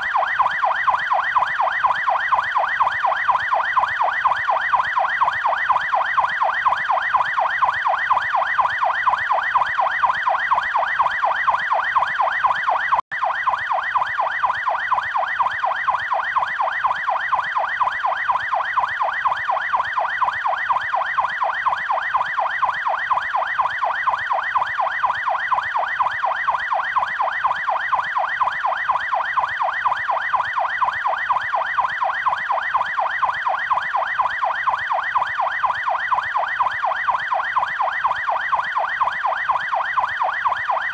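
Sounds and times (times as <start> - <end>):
police siren yelping: 0.0 - 40.9.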